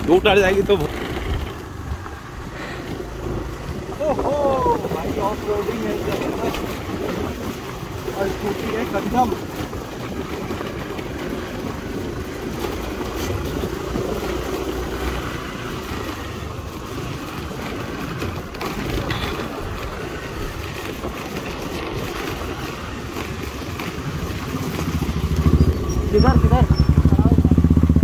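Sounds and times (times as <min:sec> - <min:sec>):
road noise on dirt track: 0:00.0 - 0:28.0
scooter engine running: 0:00.0 - 0:28.0.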